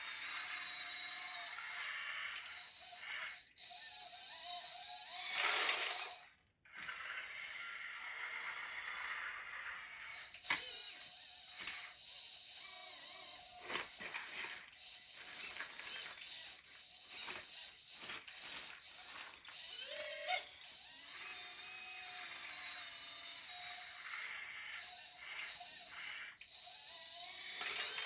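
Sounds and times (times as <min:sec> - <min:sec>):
hydraulic pump whine: 0:00.0 - 0:28.0.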